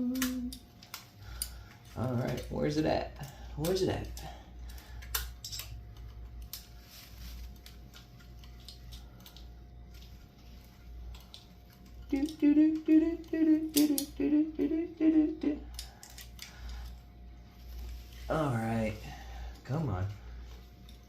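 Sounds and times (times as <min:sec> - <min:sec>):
thin steady whine: 0:00.0 - 0:21.0.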